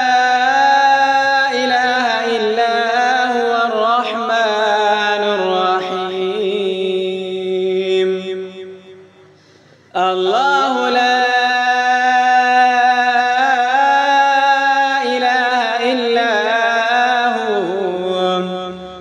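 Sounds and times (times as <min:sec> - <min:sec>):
person chanting melodic recitation: 0:00.0 - 0:09.1, 0:09.9 - 0:19.0.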